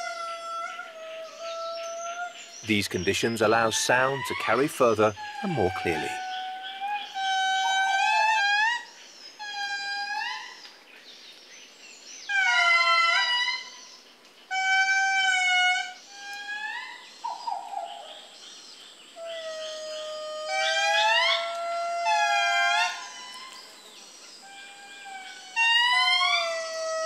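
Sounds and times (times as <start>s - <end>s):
lemurs wailing in chorus: 0.0s - 10.5s, 12.3s - 13.8s, 14.5s - 18.0s, 19.2s - 23.7s, 24.4s - 27.0s.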